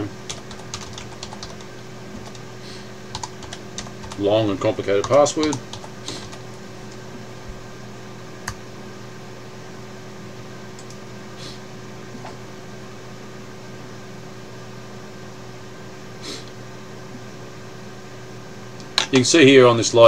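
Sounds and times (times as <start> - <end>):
fan hum: 0.0 - 20.0
low electrical drone: 0.0 - 20.0.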